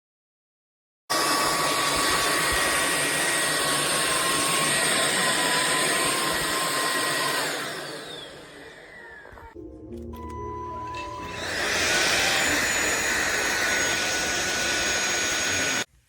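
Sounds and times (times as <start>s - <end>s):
stick vacuum whining: 1.1s - 15.9s.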